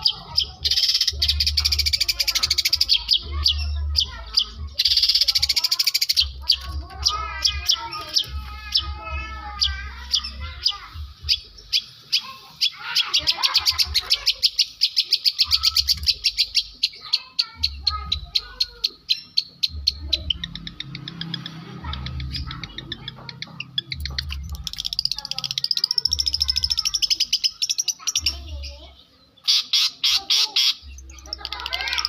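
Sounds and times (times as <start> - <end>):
bird singing varied song: 0.0 - 32.0.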